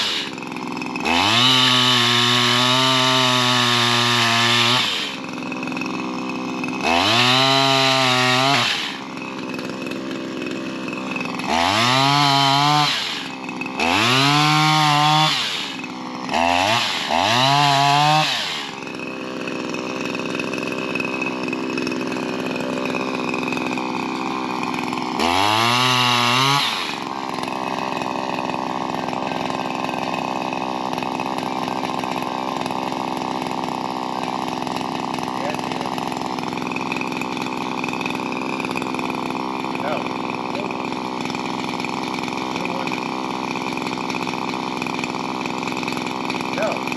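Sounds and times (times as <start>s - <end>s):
two-stroke pole saw revving: 0.0s - 46.9s.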